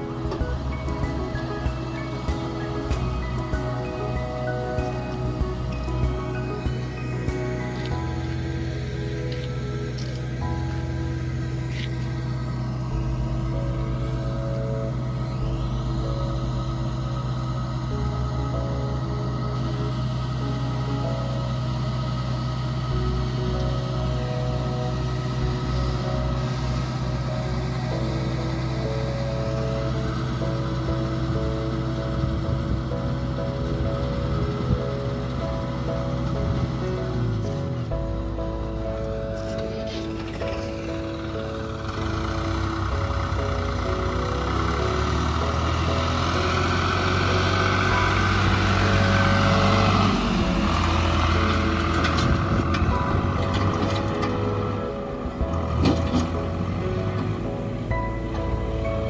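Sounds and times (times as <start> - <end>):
combine harvester engine humming: 0.0 - 59.0.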